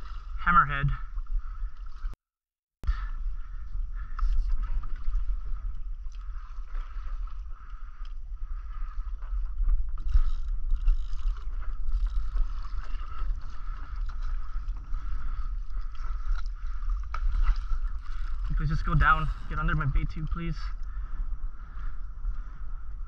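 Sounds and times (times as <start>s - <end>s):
water lapping against hull: 0.0s - 23.0s
wind buffeting microphone: 2.9s - 23.0s.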